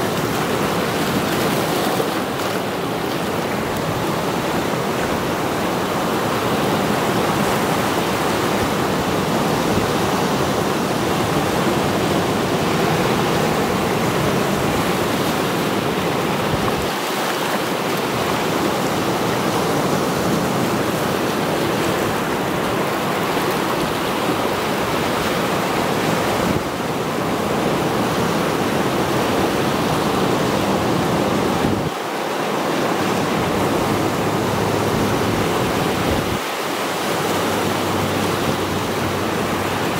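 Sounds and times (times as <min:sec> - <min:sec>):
waves breaking on rocky shore: 0:00.0 - 0:39.9.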